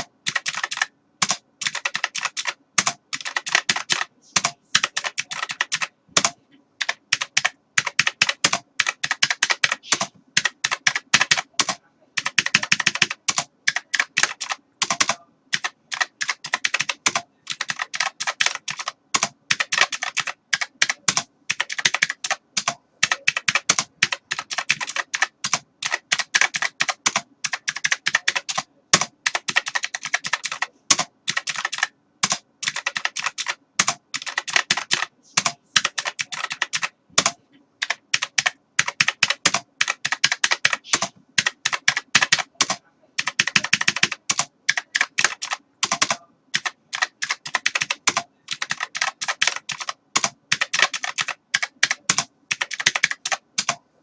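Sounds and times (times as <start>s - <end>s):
computer keyboard typing: 0.0s - 53.8s.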